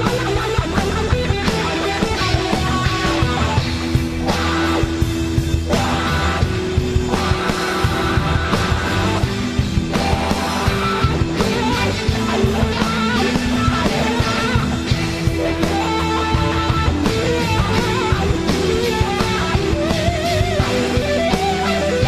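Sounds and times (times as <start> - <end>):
bass: 0.0 - 22.0
electric guitar: 0.0 - 22.0
steady drum beat: 0.0 - 22.0.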